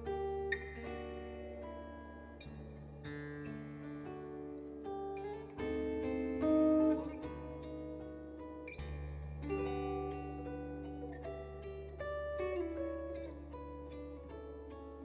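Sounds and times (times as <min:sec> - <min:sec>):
acoustic guitar solo: 0:00.0 - 0:15.0.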